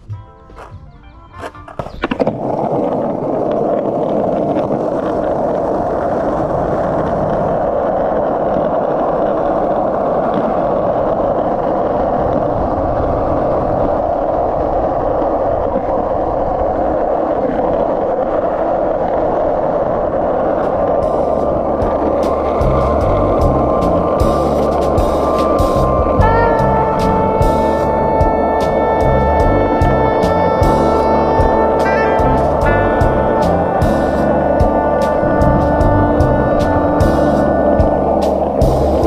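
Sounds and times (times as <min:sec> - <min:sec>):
skateboard wheels rolling on asphalt: 0:00.0 - 0:39.0.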